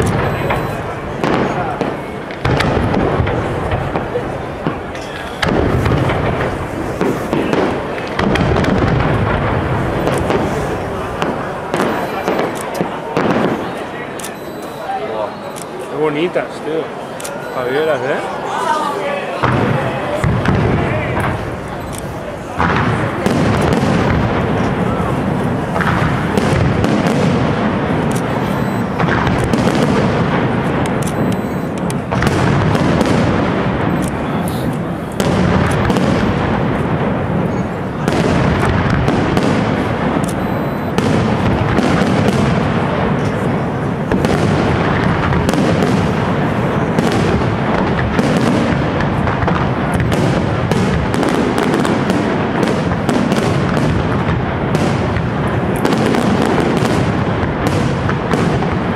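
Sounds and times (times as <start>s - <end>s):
fireworks booming and crackling: 0.0s - 58.9s.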